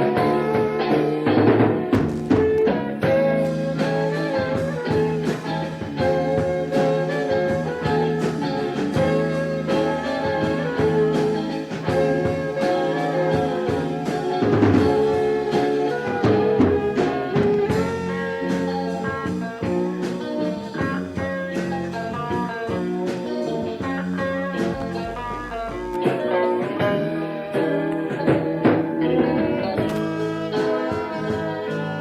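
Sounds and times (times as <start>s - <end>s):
band playing instrumental music: 0.0s - 32.0s.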